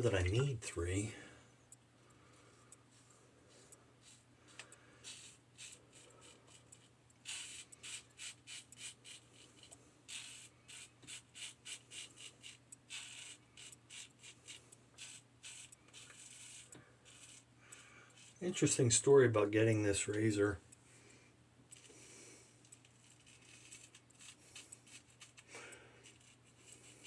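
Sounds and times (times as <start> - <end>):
razor scraping stubble: 0.0 - 1.1, 2.9 - 20.5, 21.7 - 27.0.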